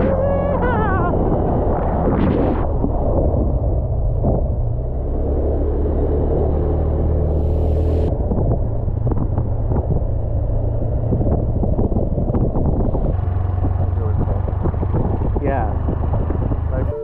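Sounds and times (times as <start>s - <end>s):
motor engine running with rattling: 2.9s - 17.0s.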